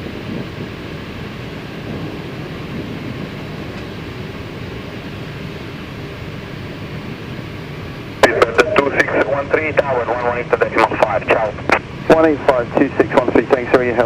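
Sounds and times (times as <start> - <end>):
aircraft engines idling: 0.0 - 14.0.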